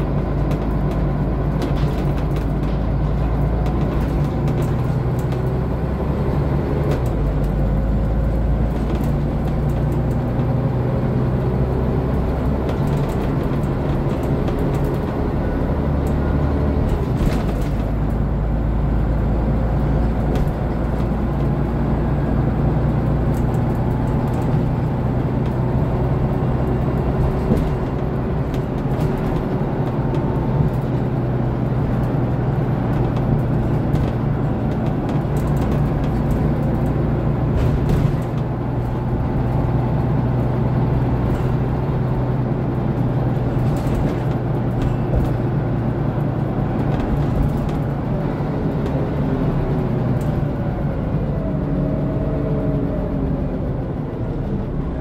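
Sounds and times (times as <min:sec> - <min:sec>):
bodywork clicks and rattles: 0:00.0 - 0:51.9
bus diesel engine running: 0:00.0 - 0:55.0.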